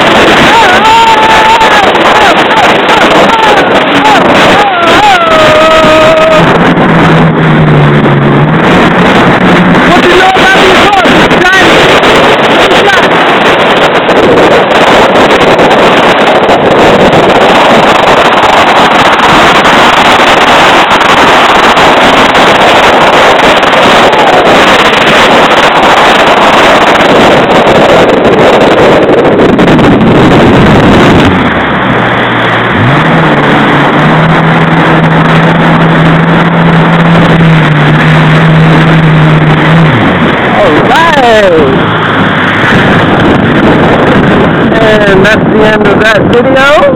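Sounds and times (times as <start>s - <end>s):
jet ski engine: 0.0s - 46.9s
rushing wind and water spray: 0.0s - 46.9s.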